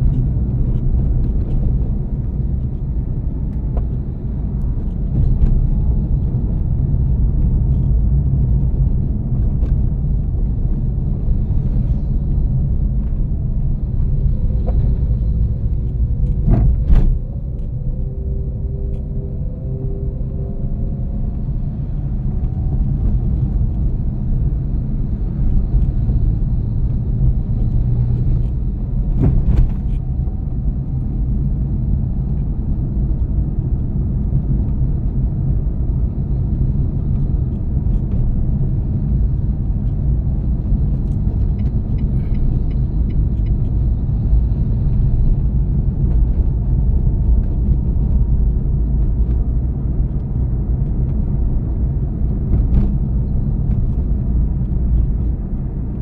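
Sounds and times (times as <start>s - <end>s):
truck engine rumble: 0.0s - 56.0s.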